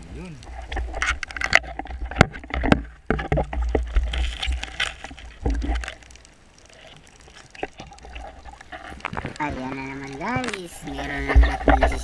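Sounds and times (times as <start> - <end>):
water sloshing: 0.0 - 12.0.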